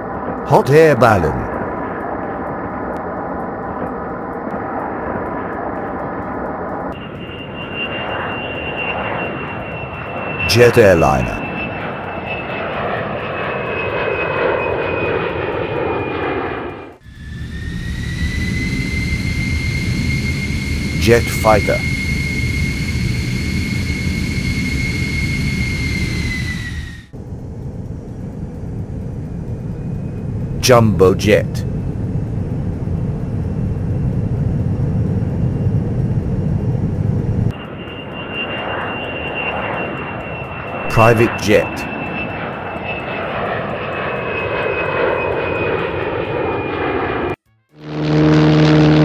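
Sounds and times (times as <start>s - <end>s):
jet engine whine: 0.0s - 49.0s
second jet whine rising: 0.0s - 49.0s.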